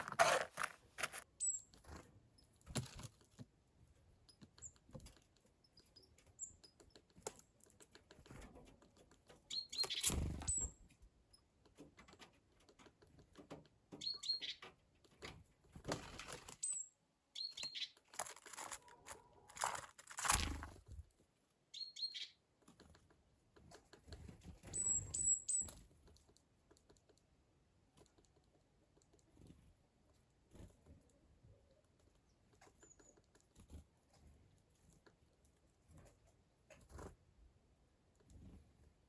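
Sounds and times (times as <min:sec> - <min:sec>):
small birds chirping: 0:00.0 - 0:02.7, 0:03.3 - 0:20.6, 0:21.6 - 0:37.1.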